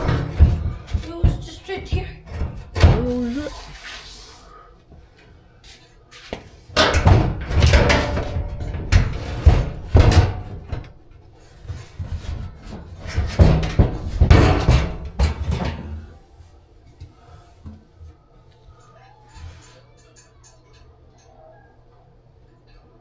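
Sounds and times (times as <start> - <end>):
clattering and scraping handling noise: 0.0 - 4.6, 5.2 - 21.4.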